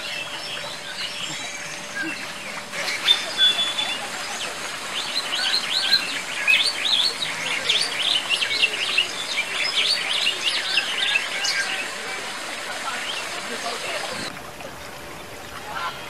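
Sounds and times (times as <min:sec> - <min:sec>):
birds chirping rapidly: 0:00.0 - 0:14.3.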